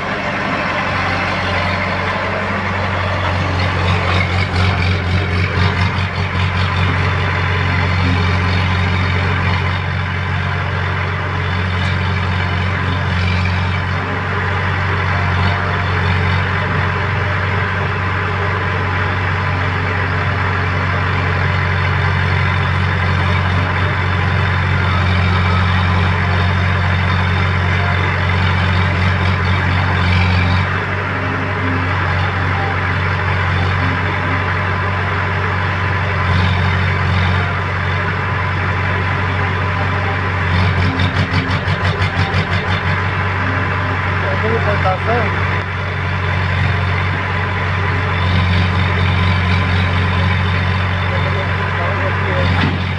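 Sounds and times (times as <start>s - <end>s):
heavy diesel engines idling: 0.0s - 52.9s.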